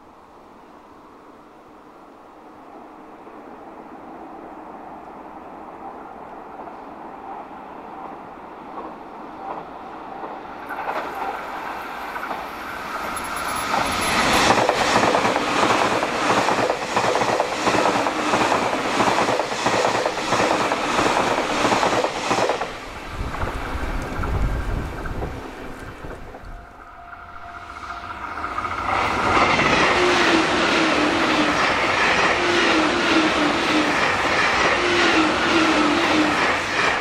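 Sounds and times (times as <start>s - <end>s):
train passing: 0.0s - 37.0s.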